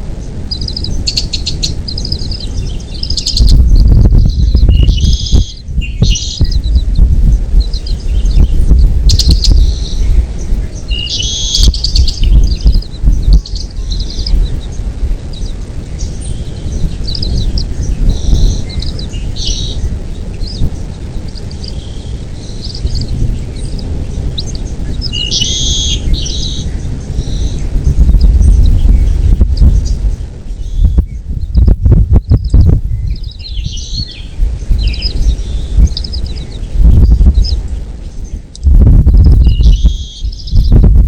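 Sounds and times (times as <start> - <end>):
loud low rumble: 0.0 - 41.0
eagles chirping: 0.2 - 31.7, 32.4 - 38.6, 39.4 - 40.8.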